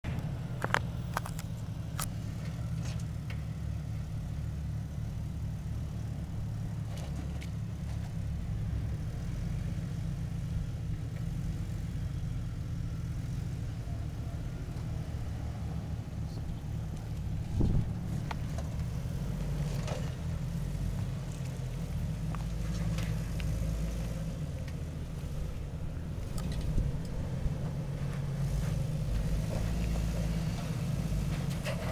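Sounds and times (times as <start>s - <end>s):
engine rumbling at low revs: 0.0s - 31.9s.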